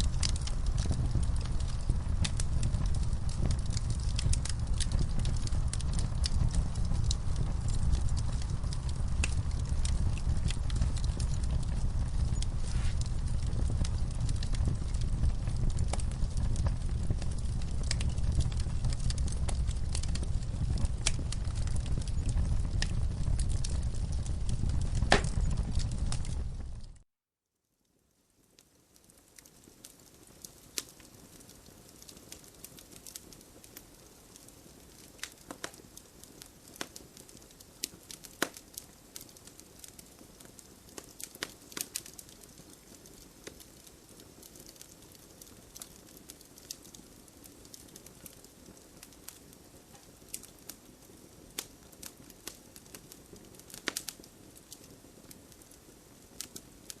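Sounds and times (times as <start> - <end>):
wood fire crackling and popping: 0.0 - 27.1, 28.2 - 57.0.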